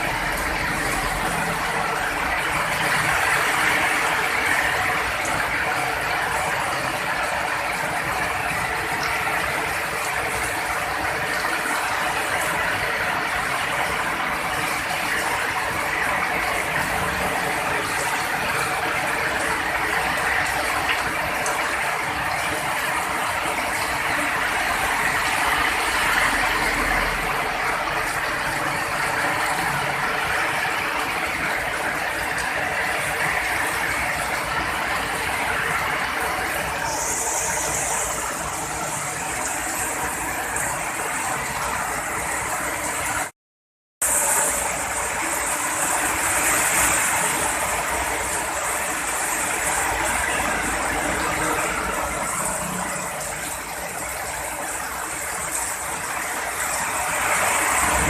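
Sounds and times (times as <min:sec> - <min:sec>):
heavy rain: 0:00.0 - 0:43.3, 0:44.0 - 0:58.0.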